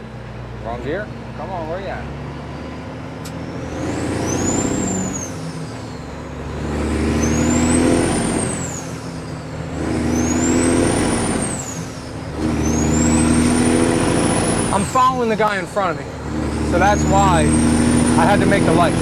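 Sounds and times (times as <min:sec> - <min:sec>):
diesel truck accelerating: 0:00.0 - 0:19.0
high engine whine: 0:00.6 - 0:19.0.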